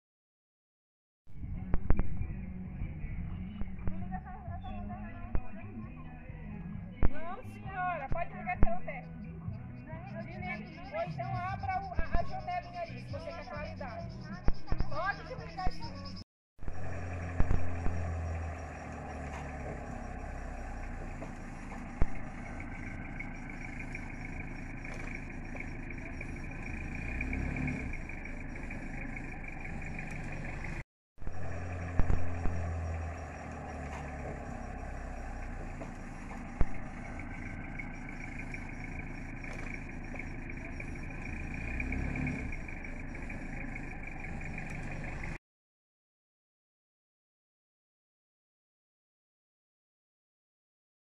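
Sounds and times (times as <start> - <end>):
car engine running slowly: 1.3 - 45.4.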